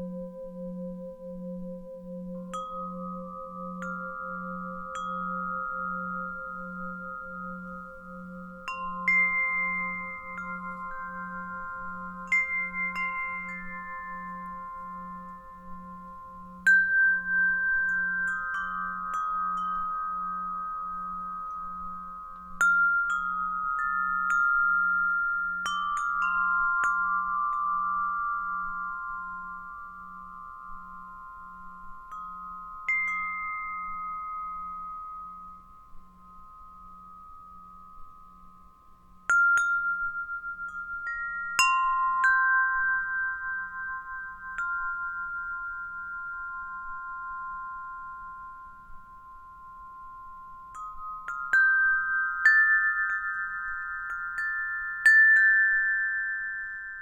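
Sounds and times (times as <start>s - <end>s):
metal wind chimes ringing: 0.0s - 57.0s
singing bowl pulsing hum: 0.0s - 57.0s.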